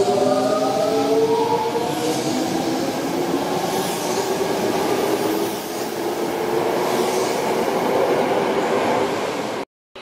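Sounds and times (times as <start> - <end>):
train wheels on rail: 0.0 - 9.6.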